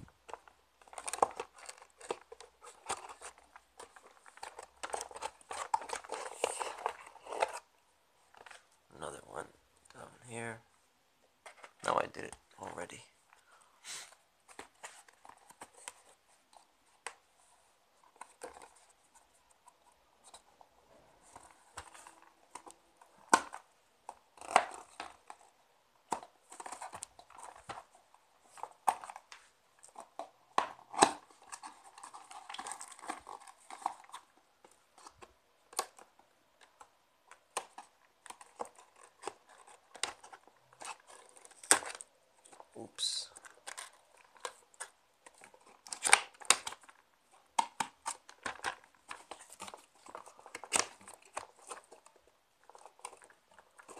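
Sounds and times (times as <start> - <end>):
cardboard and plastic packaging rustling: 0.1 - 9.2, 14.4 - 53.9.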